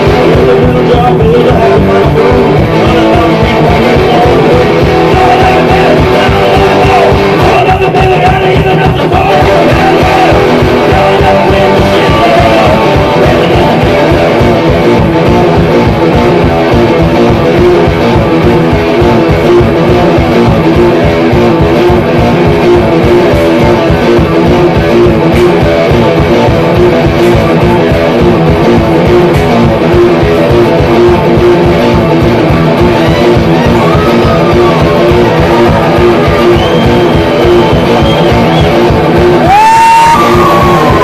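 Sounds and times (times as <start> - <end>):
amplified guitar strumming: 0.0 - 41.0.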